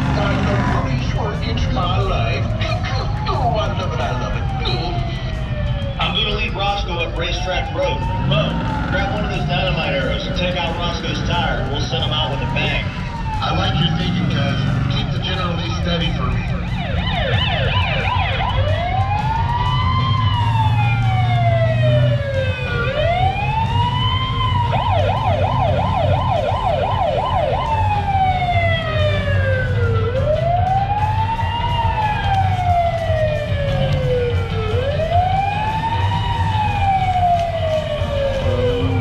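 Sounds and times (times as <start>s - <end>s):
low engine rumble: 0.0s - 39.0s
police siren wailing: 0.0s - 39.0s
siren yelp: 0.0s - 39.0s.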